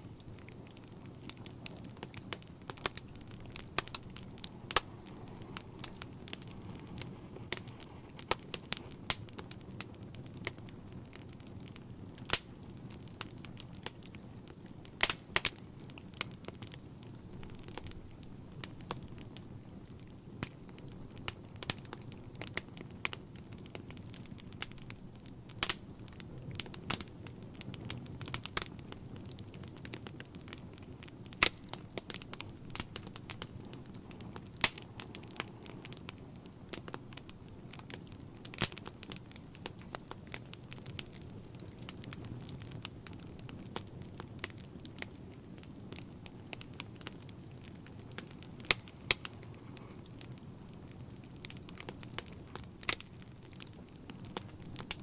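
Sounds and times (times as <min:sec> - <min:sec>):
fire rumbling: 0:00.0 - 0:55.0
logs crackling and popping: 0:00.0 - 0:55.0.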